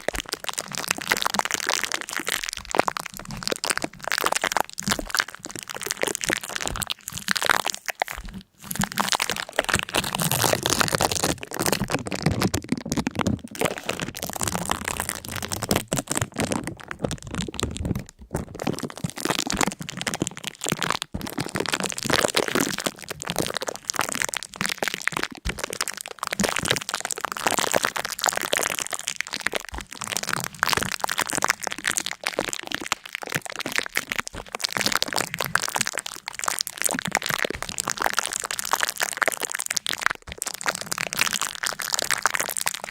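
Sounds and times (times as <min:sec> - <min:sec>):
dense crackling and crunching: 0:00.0 - 0:42.9.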